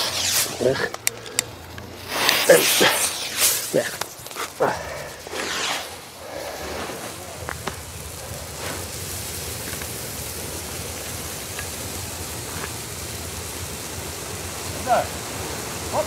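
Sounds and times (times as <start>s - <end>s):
flares burning with hiss: 0.0s - 16.0s.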